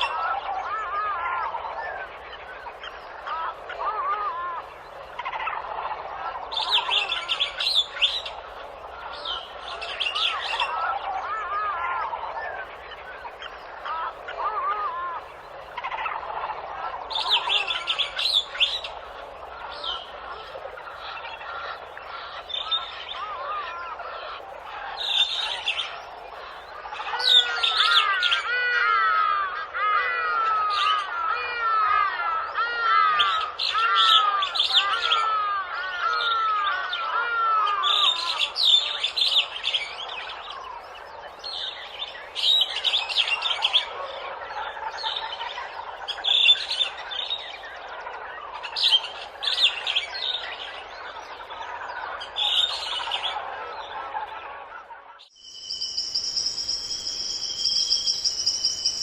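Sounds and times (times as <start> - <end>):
birds chirping and calling: 0.0 - 59.0
long swooping bird calls: 0.0 - 59.0.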